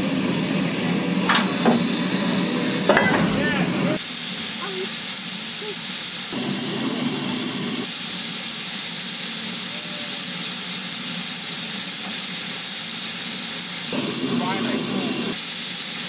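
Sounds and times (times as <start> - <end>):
steam hissing from locomotive: 0.0 - 16.0.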